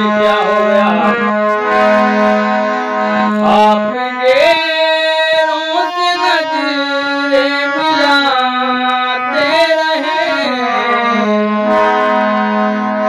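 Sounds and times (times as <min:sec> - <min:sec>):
harmonium melody: 0:00.0 - 0:13.0
man singing sliding notes: 0:00.0 - 0:13.0.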